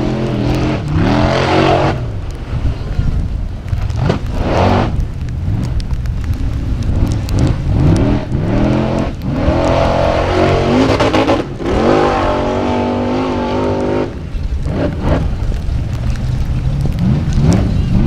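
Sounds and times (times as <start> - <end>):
buggy engine revving: 0.0 - 18.0
gravel and stones rattling: 0.0 - 18.0.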